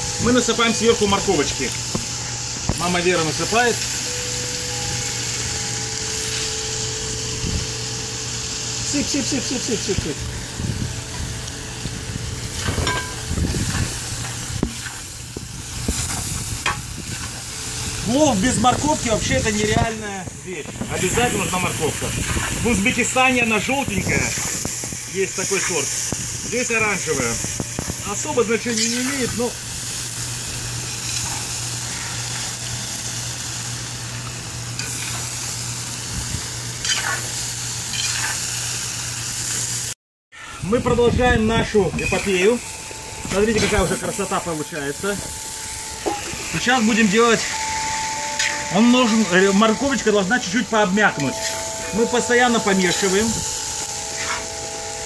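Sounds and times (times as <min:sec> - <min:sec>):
food sizzling in hot oil: 0:00.0 - 0:55.0.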